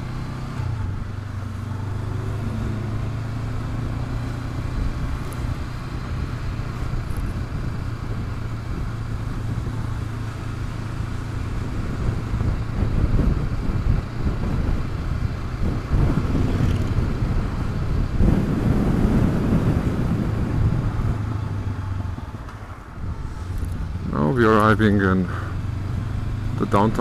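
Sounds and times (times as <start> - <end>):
motorcycle engine cruising: 0.0 - 27.0
road and wind rush: 0.0 - 27.0.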